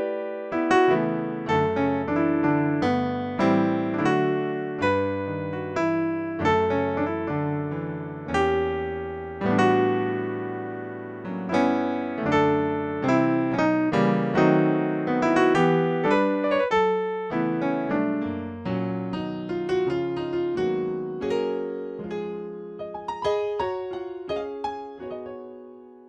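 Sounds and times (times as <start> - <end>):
electric piano gospel chords: 0.0 - 26.0.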